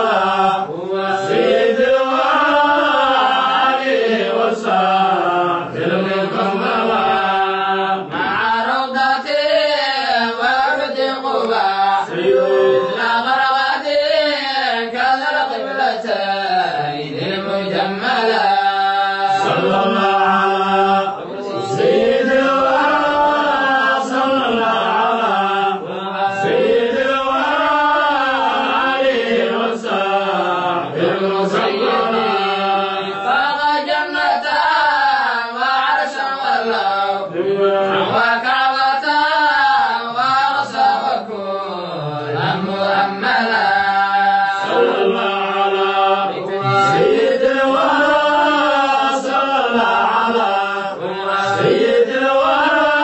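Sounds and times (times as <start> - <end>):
men chanting devotional song: 0.0 - 53.0.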